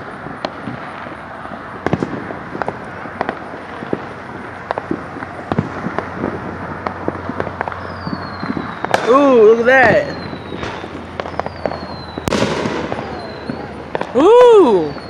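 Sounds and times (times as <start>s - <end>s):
distant crackle and rumble: 0.0s - 15.0s
fireworks pops and bangs: 0.0s - 15.0s.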